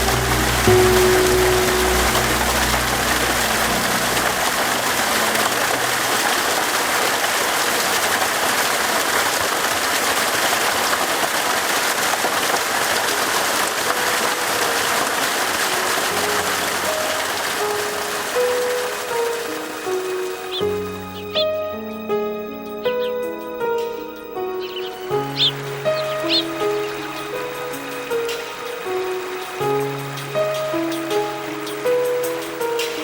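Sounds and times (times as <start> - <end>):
river rushing over rocks: 0.0 - 20.8, 25.1 - 33.0.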